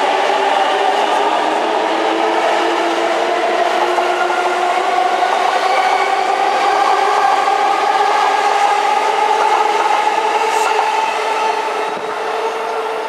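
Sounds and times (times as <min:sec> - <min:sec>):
train running noise: 0:00.0 - 0:13.0.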